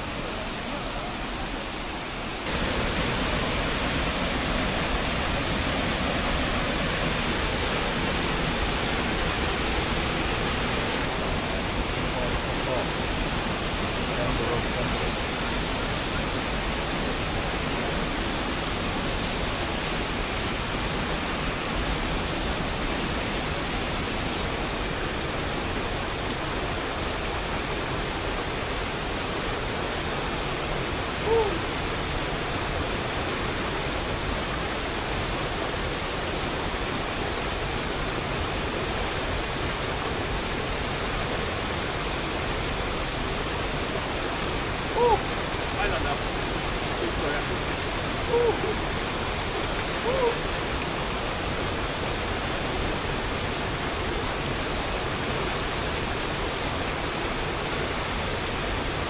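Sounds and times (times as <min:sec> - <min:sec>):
waterfall roaring: 0:00.0 - 0:59.0.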